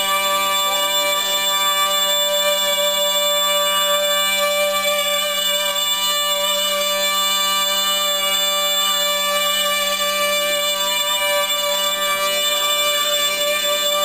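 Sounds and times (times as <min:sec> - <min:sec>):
reedy pipe melody over drone: 0:00.0 - 0:14.0.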